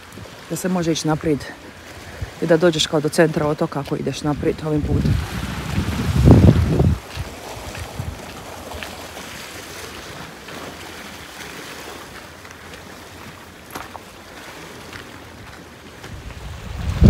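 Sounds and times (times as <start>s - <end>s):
sea surf: 0.0s - 17.0s
wind: 0.0s - 17.0s.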